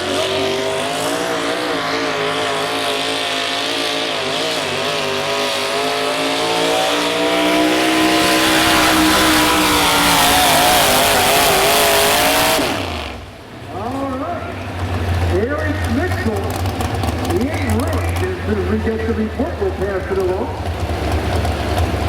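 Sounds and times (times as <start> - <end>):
truck engine at high revs: 0.0 - 22.0.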